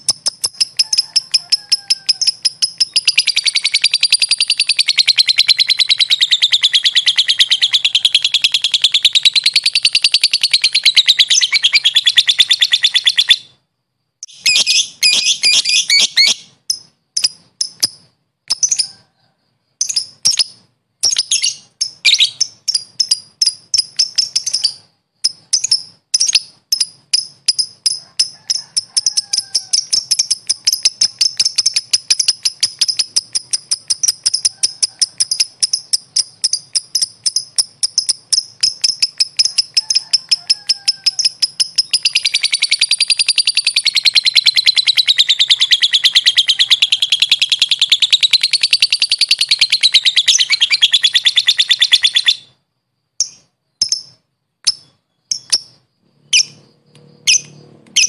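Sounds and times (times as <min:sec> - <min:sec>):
lovebird chattering: 0:00.0 - 0:13.6, 0:14.2 - 0:19.0, 0:19.8 - 0:52.6, 0:53.2 - 0:58.0.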